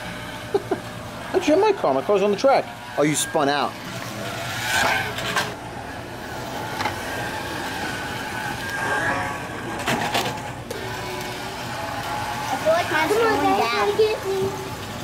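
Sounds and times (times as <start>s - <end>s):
slot car motors whining: 0.0s - 15.0s.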